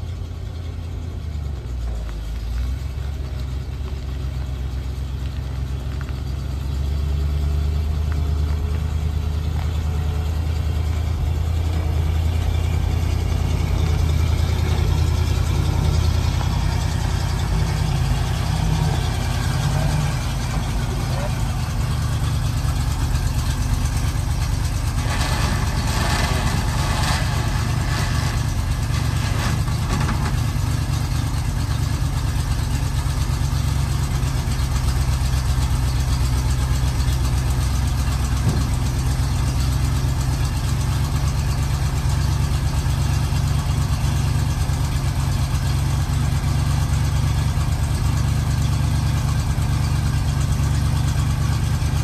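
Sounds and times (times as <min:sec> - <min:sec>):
truck engine idling: 0:00.0 - 0:52.0.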